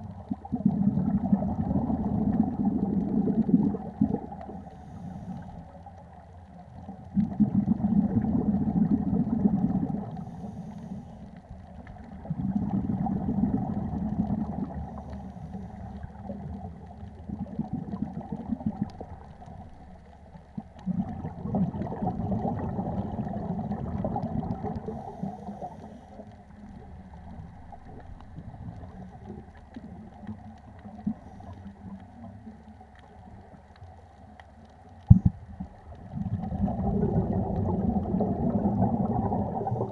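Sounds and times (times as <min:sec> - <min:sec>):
bubbles rumbling underwater: 0:00.0 - 0:10.6, 0:11.3 - 0:39.9
steady underwater hiss: 0:00.0 - 0:39.9.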